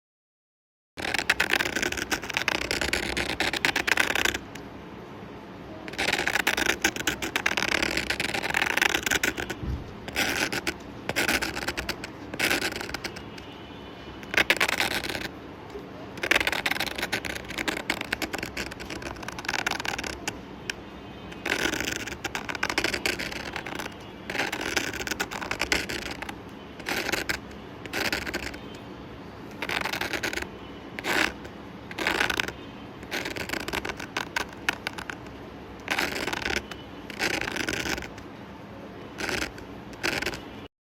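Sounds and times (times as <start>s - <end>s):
pencil scratching on paper: 1.0s - 4.6s, 5.9s - 13.6s, 14.2s - 28.8s, 29.5s - 38.3s, 39.1s - 40.6s.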